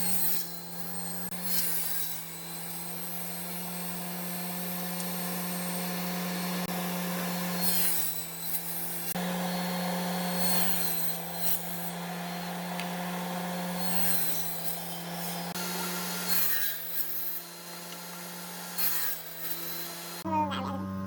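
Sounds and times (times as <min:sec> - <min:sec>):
woodworking tool rasping wood: 0:00.0 - 0:20.2.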